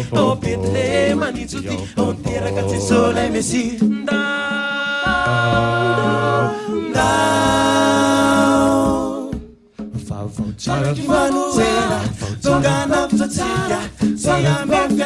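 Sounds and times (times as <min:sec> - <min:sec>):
male vocal group singing a cappella: 0:00.0 - 0:15.0.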